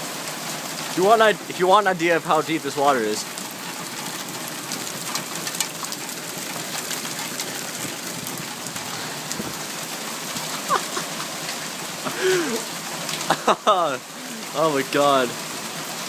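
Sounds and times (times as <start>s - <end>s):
hailstones striking: 0.0s - 16.0s
heavy rain hissing: 0.0s - 16.0s.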